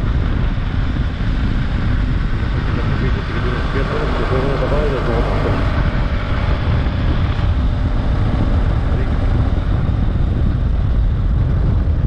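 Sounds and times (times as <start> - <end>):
motorcycle engine cruising: 0.0 - 12.0
wind rumble on microphone: 0.0 - 12.0.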